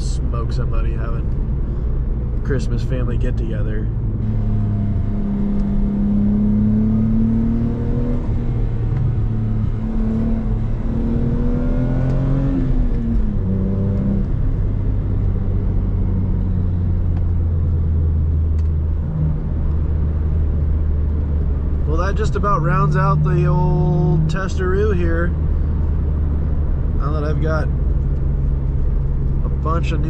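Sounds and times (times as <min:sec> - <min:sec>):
car engine revving: 0:00.0 - 0:30.0
road rumble: 0:00.0 - 0:30.0.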